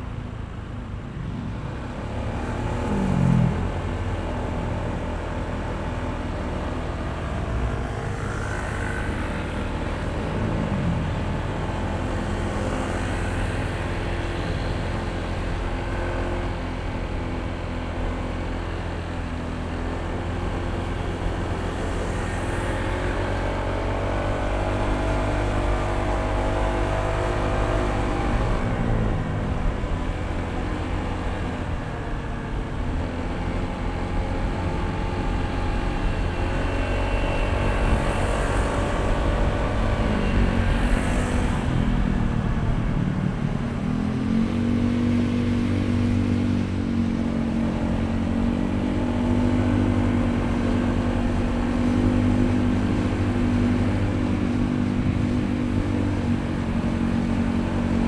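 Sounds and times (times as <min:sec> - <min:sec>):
scooter engine running: 0:01.8 - 0:58.0.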